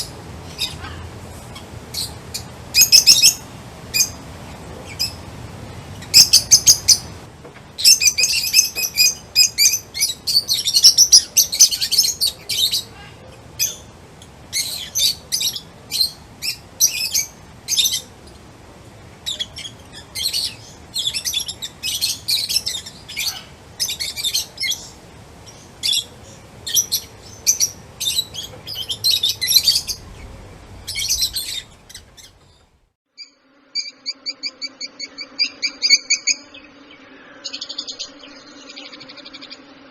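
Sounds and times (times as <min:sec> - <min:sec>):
evenly repeated bird call: 0:00.0 - 0:04.3, 0:06.0 - 0:18.2, 0:19.2 - 0:39.9
birds chirping: 0:00.0 - 0:39.9.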